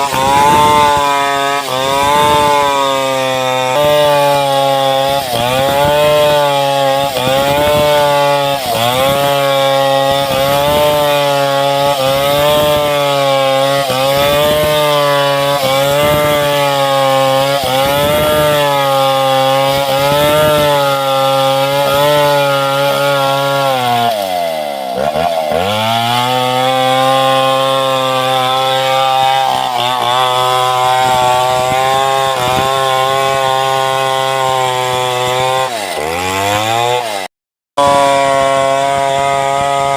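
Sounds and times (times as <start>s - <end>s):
chainsaw ripping timber: 0.0s - 39.9s.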